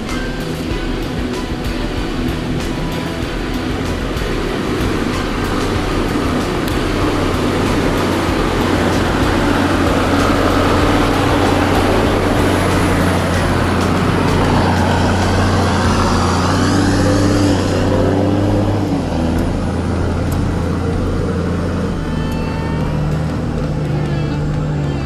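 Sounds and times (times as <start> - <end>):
four-wheel drive engine climbing: 0.0 - 25.0.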